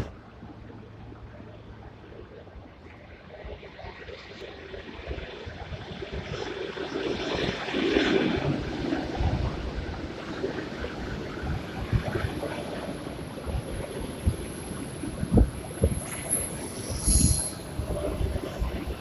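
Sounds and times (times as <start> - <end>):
train wheels rumbling on rails: 2.7 - 19.0.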